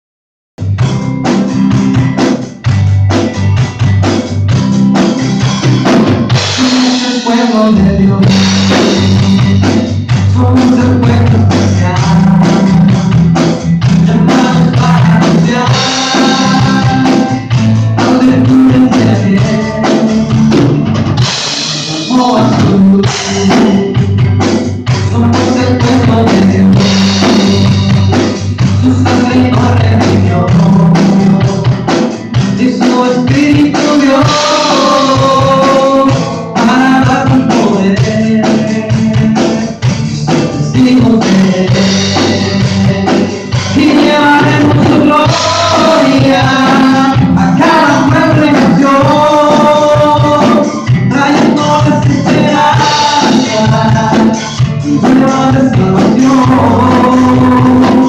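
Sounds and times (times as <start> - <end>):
drum kit beat: 0.6 - 58.0
guitars: 0.6 - 58.0
live band playing: 0.6 - 58.0.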